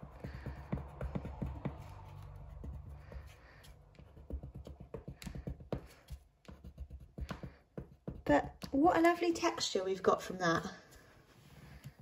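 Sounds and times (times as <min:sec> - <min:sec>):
pencil tapping and scratching on paper: 0:00.0 - 0:10.7.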